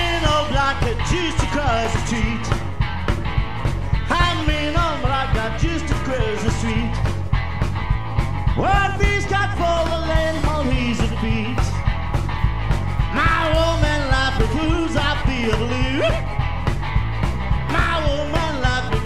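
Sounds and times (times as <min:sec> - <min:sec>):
electric guitar lead line: 0:00.0 - 0:19.0
rockabilly band playing live: 0:00.0 - 0:19.0.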